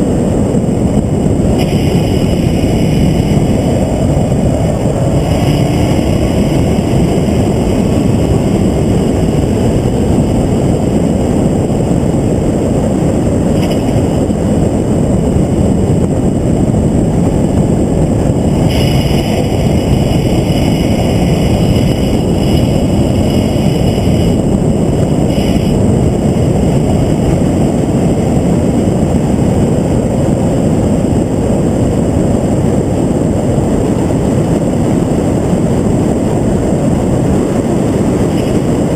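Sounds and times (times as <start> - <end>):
vehicle engine at speed: 0.0 - 38.9
wind buffeting: 0.0 - 38.9.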